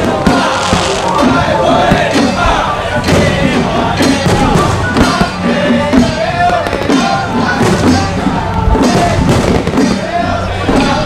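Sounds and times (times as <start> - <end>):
fireworks bursting: 0.0 - 11.0
loud music with wavering melody: 0.0 - 11.0.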